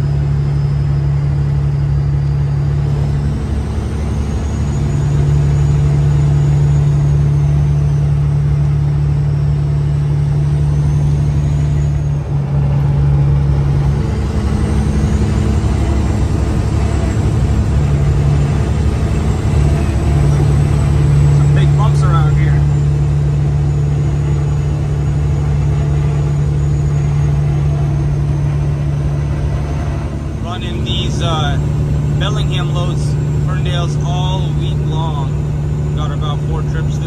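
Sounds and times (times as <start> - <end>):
faint high whine: 0.0 - 37.0
truck diesel engine humming: 0.0 - 37.0.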